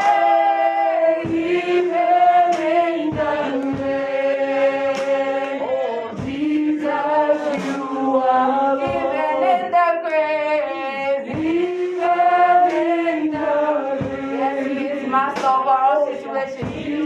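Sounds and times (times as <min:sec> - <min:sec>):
voices singing slow chorus: 0:00.0 - 0:17.0.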